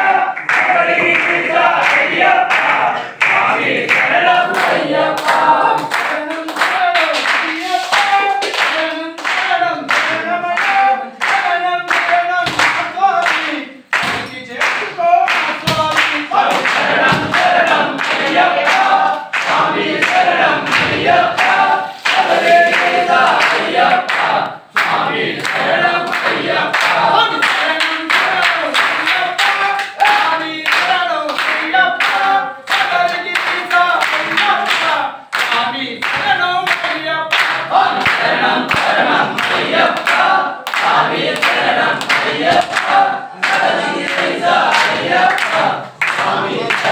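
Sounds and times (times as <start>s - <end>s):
men singing together: 0.0s - 46.9s
hand claps: 0.3s - 46.9s.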